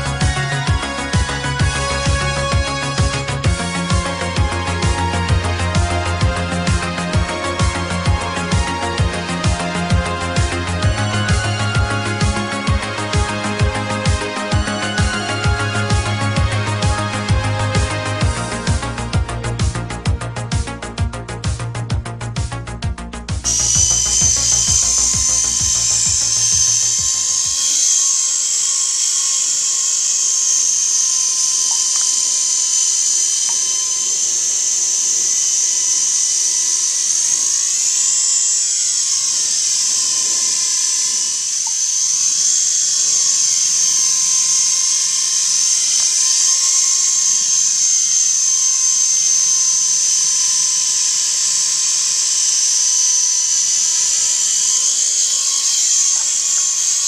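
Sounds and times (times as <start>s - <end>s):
toy helicopter rotors whining: 0.0s - 16.4s, 23.5s - 57.0s.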